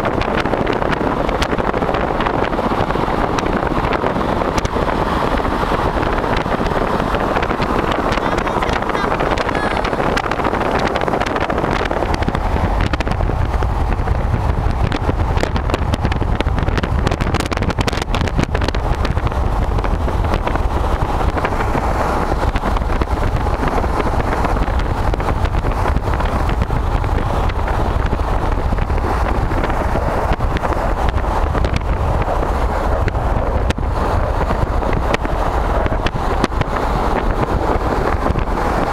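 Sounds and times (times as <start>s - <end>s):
car road and engine noise: 0.0s - 38.9s
wind buffeting microphone: 0.0s - 38.9s.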